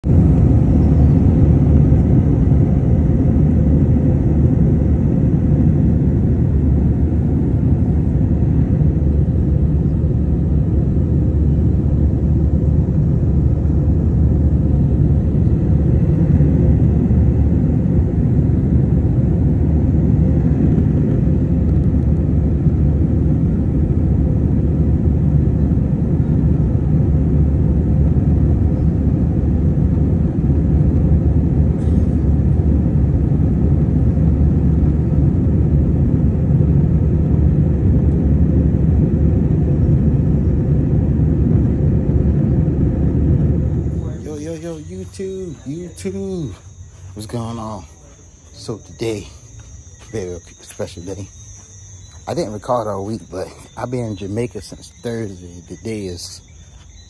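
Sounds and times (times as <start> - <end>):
jet airliner cabin rumble: 0.0 - 57.0.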